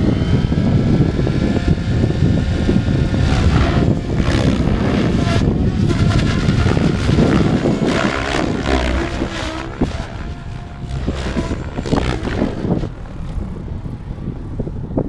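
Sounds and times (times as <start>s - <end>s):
rc helicopter whining: 0.0s - 15.0s
wind rumbling on microphone: 0.0s - 15.0s.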